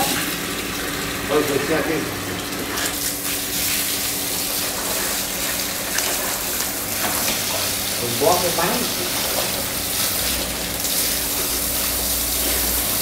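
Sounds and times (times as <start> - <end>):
water gushing from a hose: 0.0 - 13.0.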